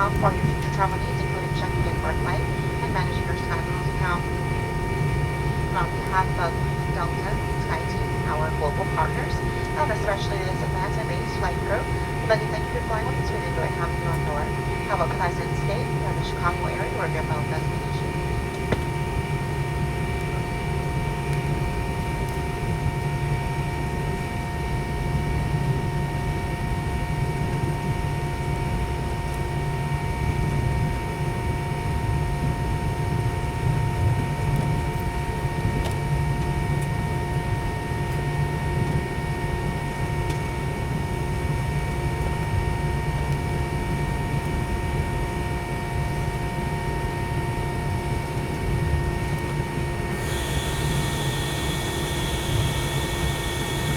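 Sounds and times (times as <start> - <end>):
jet engines idling: 0.0 - 53.9.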